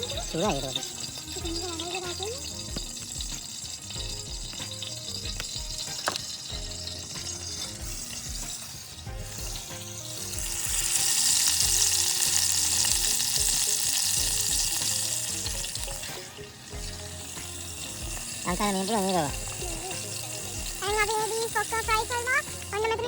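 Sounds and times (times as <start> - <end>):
food sizzling in a pan: 0.0 - 23.0
quiet background music: 0.0 - 23.0.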